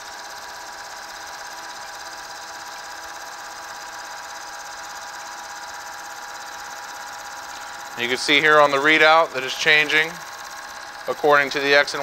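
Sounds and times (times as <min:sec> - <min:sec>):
milling machine cutting metal: 0:00.1 - 0:12.0.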